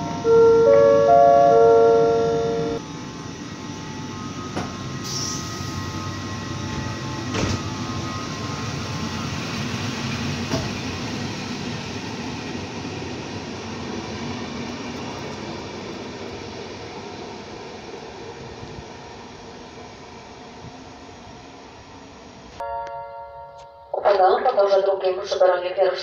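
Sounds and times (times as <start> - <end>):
train coaches rolling past: 0.0 - 26.0.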